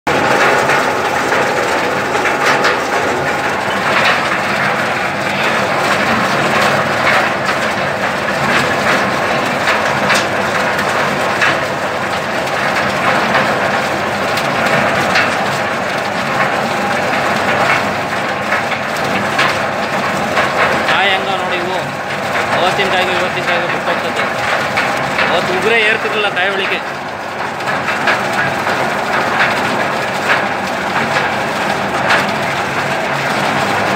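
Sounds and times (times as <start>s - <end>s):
machine droning: 0.1s - 33.9s.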